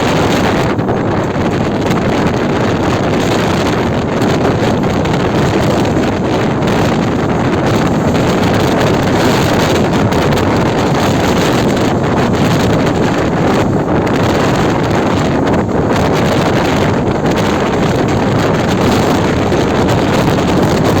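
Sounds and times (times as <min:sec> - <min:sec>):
moving train running noise: 0:00.0 - 0:21.0
wind on microphone: 0:00.0 - 0:21.0.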